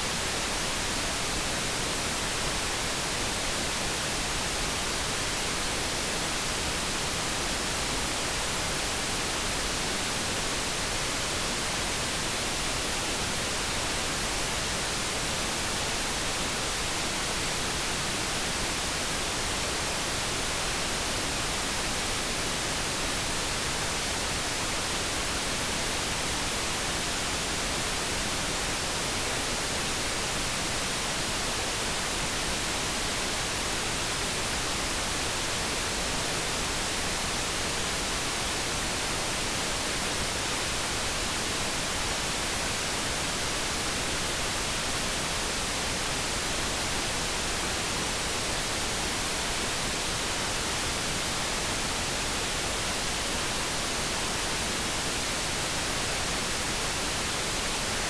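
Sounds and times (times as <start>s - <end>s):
brown noise hiss: 0.0s - 58.0s.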